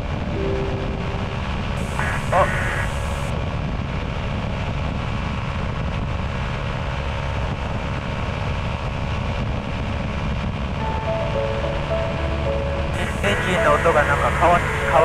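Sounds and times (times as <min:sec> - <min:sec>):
ultralight engine and propeller drone: 0:00.0 - 0:15.0.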